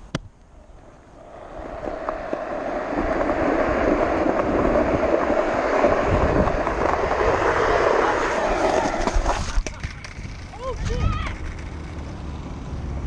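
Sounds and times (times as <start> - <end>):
small wheels rolling on pavement: 0.5 - 13.0.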